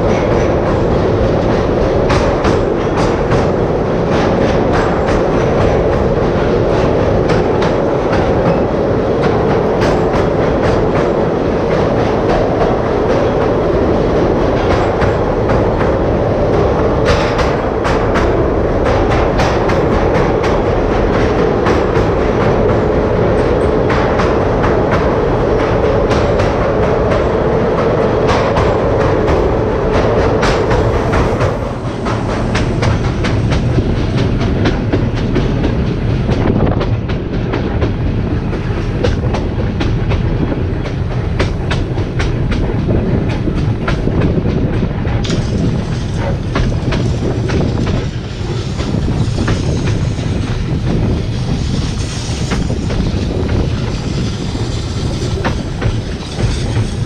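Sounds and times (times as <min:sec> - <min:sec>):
electric locomotive running: 0:00.0 - 0:57.0
wheels clicking over rail joints: 0:00.0 - 0:57.0.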